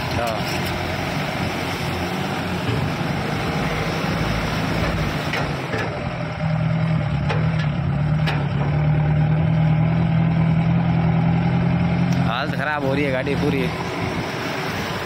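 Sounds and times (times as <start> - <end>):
vehicle engine labouring: 0.0 - 15.0.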